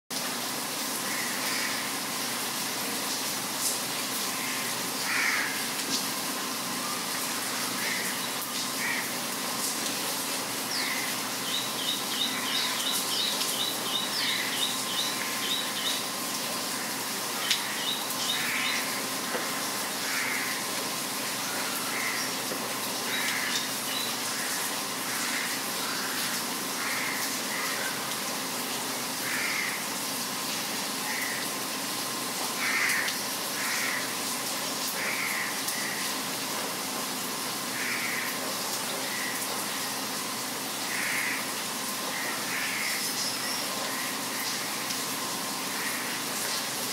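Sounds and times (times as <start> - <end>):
rain hiss: 0.1 - 46.9.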